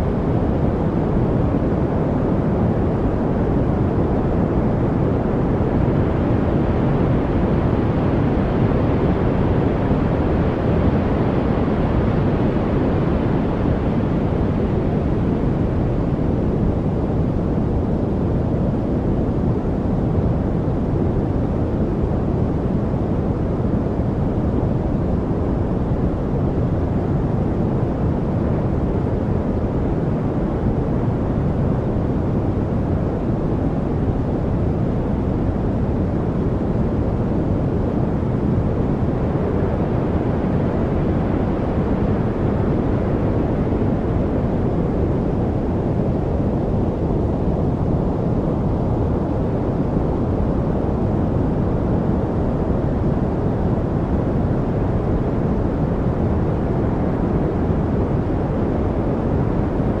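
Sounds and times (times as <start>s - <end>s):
steady low brown noise: 0.0s - 60.0s.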